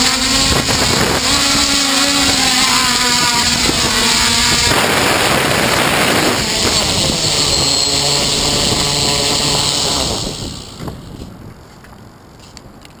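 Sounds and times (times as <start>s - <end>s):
drone motors whining: 0.0s - 11.3s.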